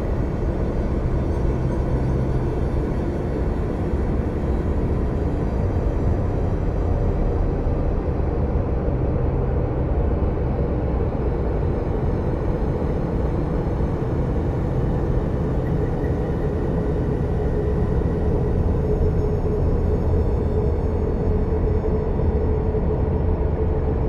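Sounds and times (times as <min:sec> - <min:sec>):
deep rumbling ambient drone: 0:00.0 - 0:24.0.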